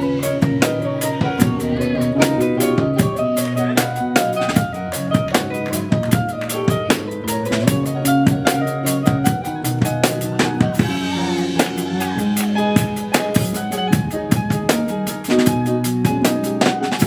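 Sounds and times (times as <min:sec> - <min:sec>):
drum kit beat: 0:00.0 - 0:17.0
live band playing: 0:00.0 - 0:17.0.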